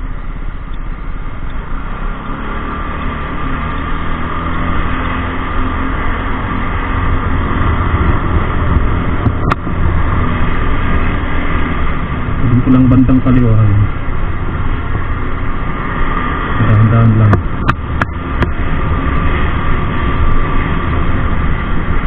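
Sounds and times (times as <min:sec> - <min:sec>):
motorcycle accelerating: 0:00.0 - 0:22.0.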